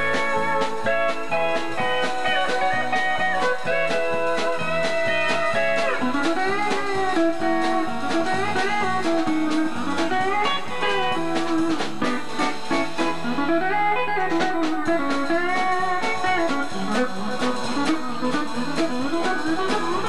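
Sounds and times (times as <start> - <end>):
steady beat: 0.0 - 20.0.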